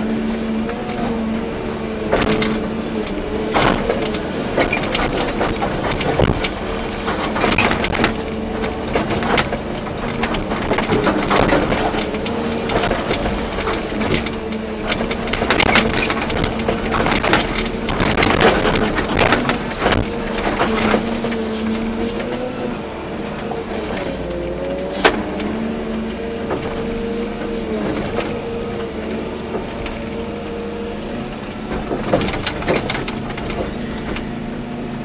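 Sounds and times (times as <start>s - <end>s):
excavator diesel engine running: 0.0s - 35.0s
machine knocks scrapes and rattles: 0.0s - 35.0s.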